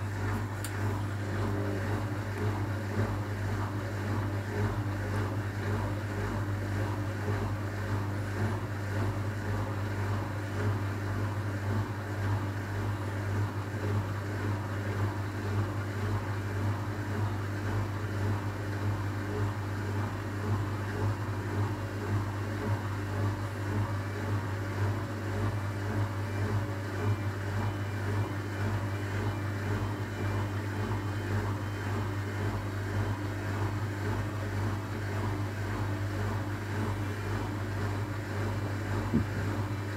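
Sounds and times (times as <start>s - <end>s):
washing machine low hum: 0.0s - 39.9s.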